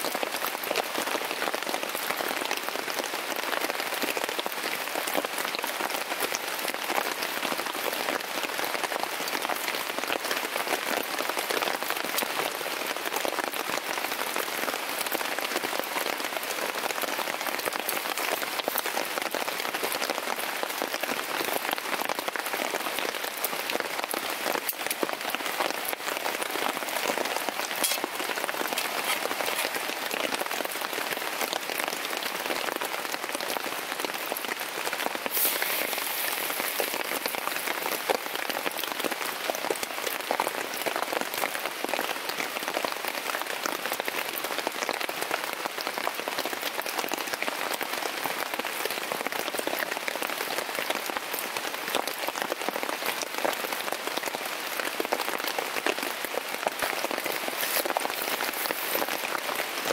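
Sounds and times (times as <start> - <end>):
rain pattering on a tent: 0.0 - 59.9.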